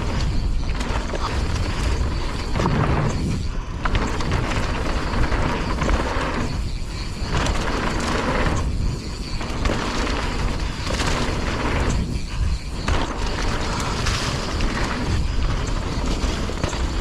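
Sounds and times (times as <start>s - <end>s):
bike clicks and rattles: 0.0s - 17.0s
bike tyres rushing on dirt: 0.0s - 17.0s
wind buffeting microphone: 0.0s - 17.0s.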